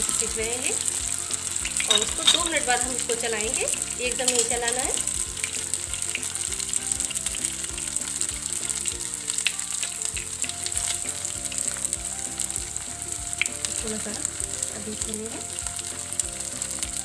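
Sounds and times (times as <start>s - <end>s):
food sizzling in hot oil: 0.0s - 17.0s
oil popping and crackling: 0.0s - 17.0s.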